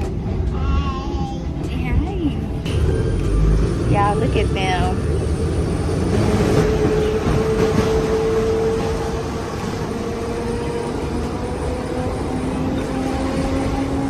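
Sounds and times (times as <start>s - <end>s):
trolley rumbling on track: 0.0s - 14.0s.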